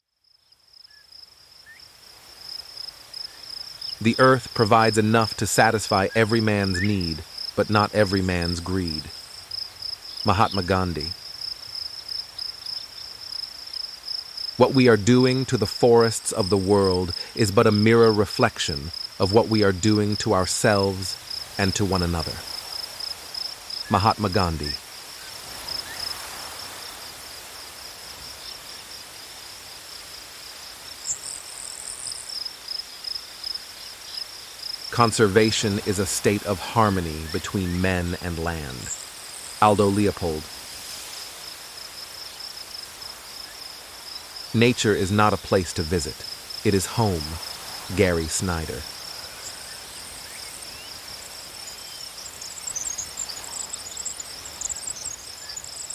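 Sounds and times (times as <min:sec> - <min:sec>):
crickets chirping: 0:00.0 - 0:55.9
higher insect trill: 0:00.0 - 0:55.9
soft hiss: 0:00.9 - 0:55.9.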